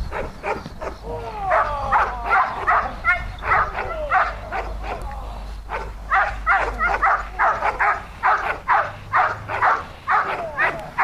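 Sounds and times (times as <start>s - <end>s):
dog barking hard: 0.1s - 5.0s, 5.7s - 11.0s.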